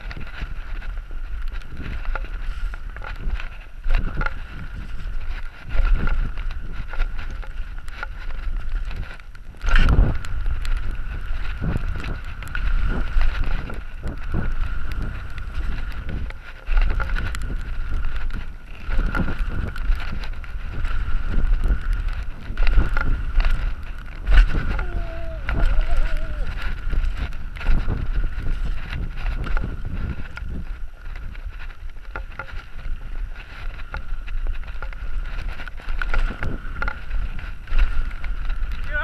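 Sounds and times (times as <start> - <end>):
bike rattling over bumps: 0.0 - 39.0
tyres rolling over gravel: 0.0 - 39.0
wind on microphone: 0.0 - 39.0.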